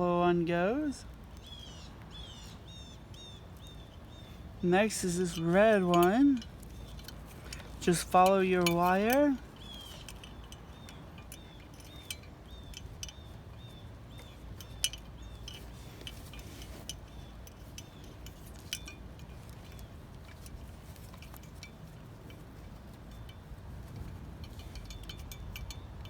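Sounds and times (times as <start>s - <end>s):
connectors clicking and clinking: 4.8s - 26.0s.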